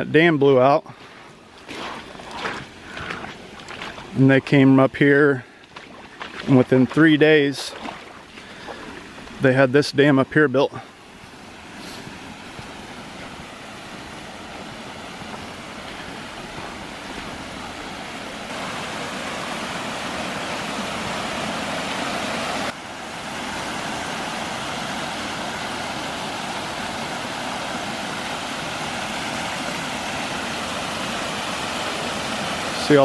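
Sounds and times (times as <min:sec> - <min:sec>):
water rushing over dam: 0:00.0 - 0:33.0.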